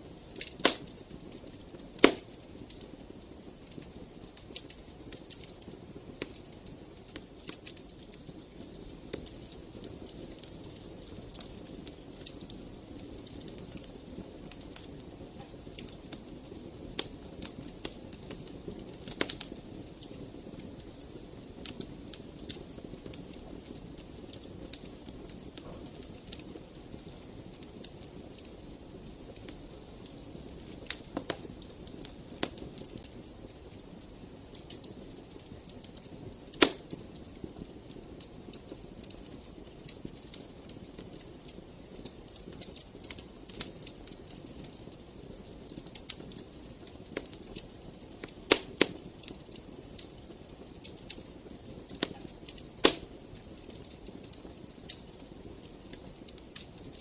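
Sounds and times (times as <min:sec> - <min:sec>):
flames rushing: 0:00.0 - 0:57.0
wood fire popping and snapping: 0:00.0 - 0:57.0.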